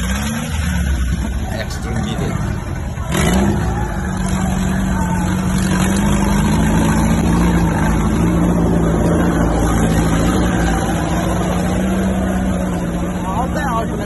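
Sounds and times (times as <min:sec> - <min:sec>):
car engine revving: 0:00.0 - 0:14.0
tyres churning through mud: 0:00.0 - 0:14.0.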